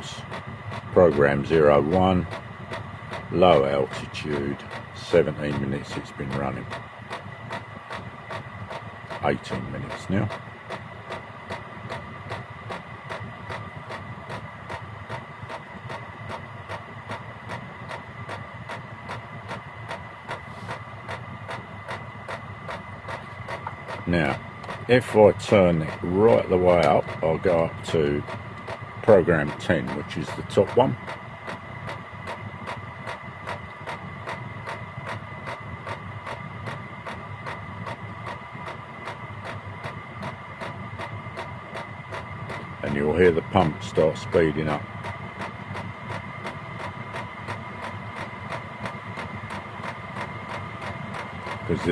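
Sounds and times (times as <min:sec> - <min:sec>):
burner and fan rumble: 0:00.0 - 0:51.9
faint steady whine: 0:00.0 - 0:51.9
fuel pump ticking: 0:00.0 - 0:51.9.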